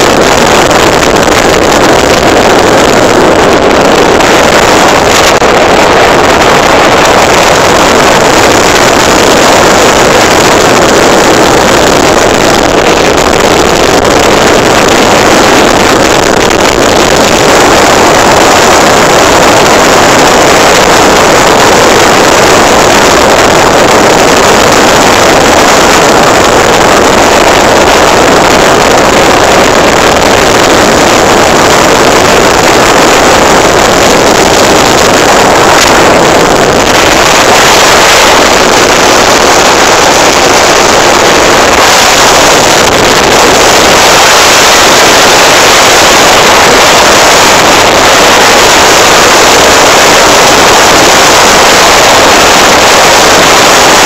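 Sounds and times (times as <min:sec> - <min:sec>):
wind rush on microphone: 0:00.0 - 0:54.0.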